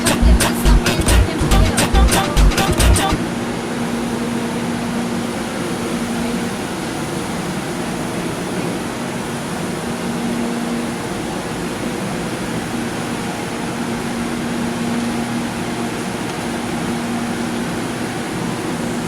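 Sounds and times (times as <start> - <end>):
fan blower rushing: 0.0 - 19.0.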